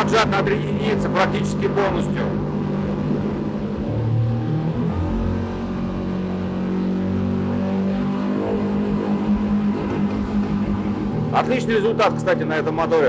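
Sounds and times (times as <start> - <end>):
outboard motor running hard: 0.0 - 13.0.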